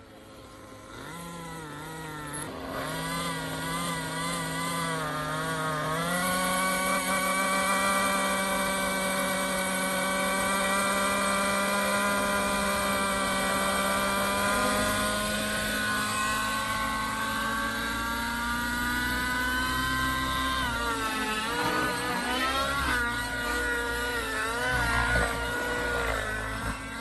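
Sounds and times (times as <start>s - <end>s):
model helicopter engine and rotors: 0.0s - 27.0s.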